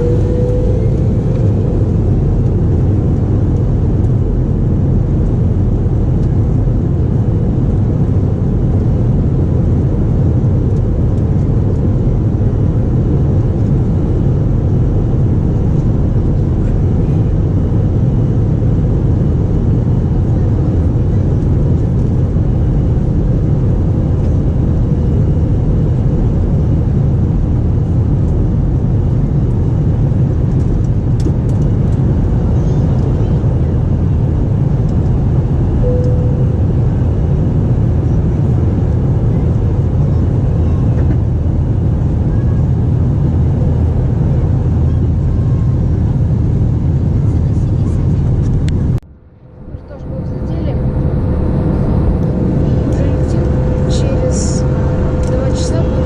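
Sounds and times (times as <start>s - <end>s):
jet engines and airflow in cabin: 0.0s - 56.0s.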